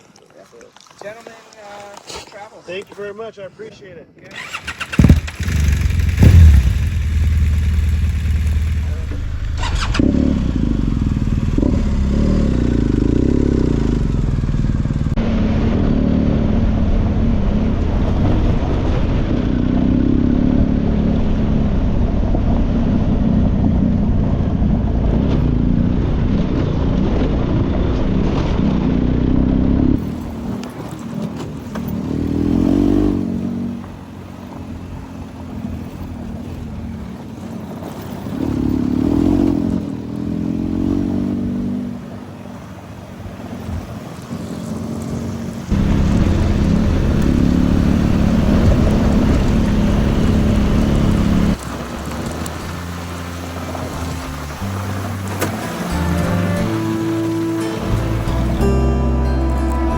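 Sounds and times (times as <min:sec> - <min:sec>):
motorcycle engine rumbling: 0:04.2 - 0:59.9.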